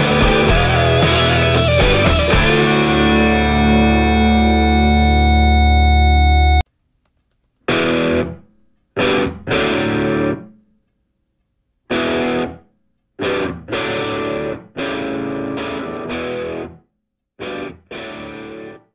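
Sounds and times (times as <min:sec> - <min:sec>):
guitar chords strummed: 0:00.0 - 0:06.6, 0:07.7 - 0:10.5, 0:11.9 - 0:12.6, 0:13.2 - 0:16.8, 0:17.4 - 0:18.9.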